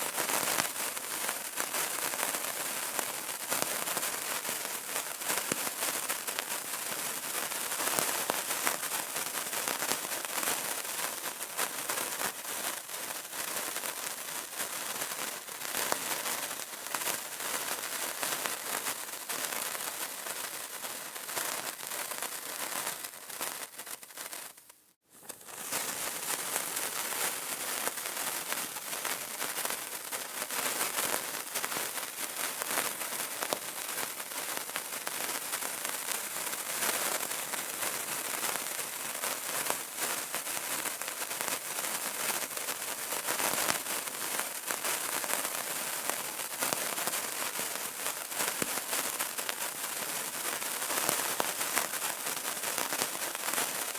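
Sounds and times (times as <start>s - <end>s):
candle crackling: 0.0s - 53.9s.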